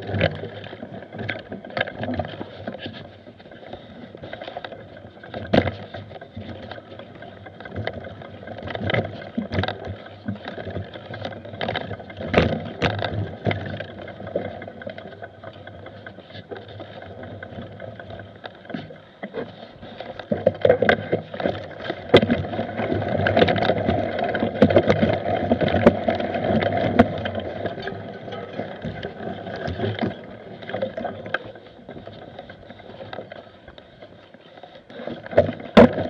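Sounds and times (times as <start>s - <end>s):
bike rattling and knocking: 3.7s - 18.9s, 20.1s - 33.5s, 34.9s - 36.0s.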